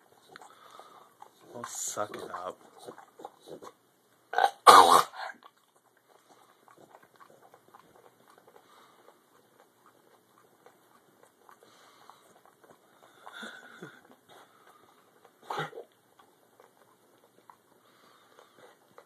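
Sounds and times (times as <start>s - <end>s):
dog lip-smacking and licking: 0.0s - 3.8s, 5.4s - 19.0s.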